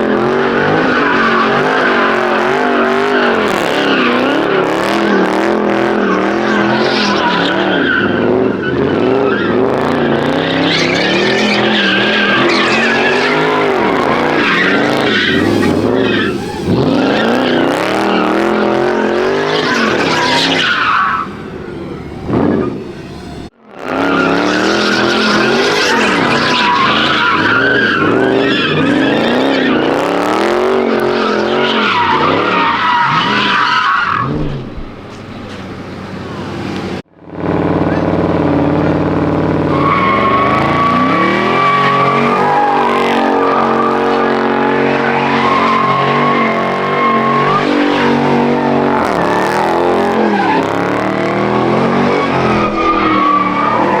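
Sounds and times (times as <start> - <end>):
car engine revving: 0.0 - 54.0
tires squealing: 0.0 - 54.0.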